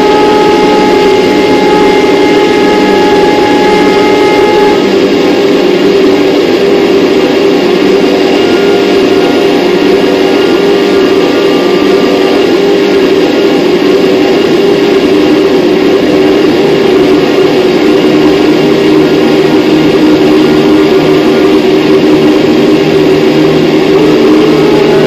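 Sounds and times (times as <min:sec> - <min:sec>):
noise drone music: 0:00.0 - 0:25.0.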